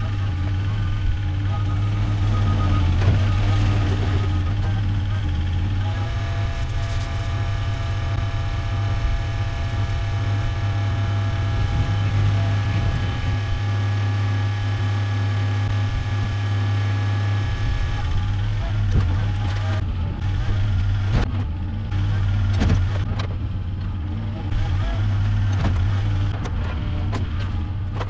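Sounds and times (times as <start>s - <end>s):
heavy engine droning: 0.0s - 28.0s
steady engine whine: 0.0s - 28.0s.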